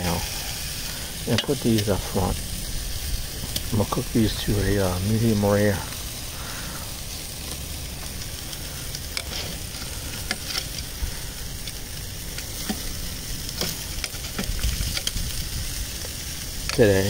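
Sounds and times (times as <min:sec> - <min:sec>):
meat sizzling on a grill: 0:00.0 - 0:17.0.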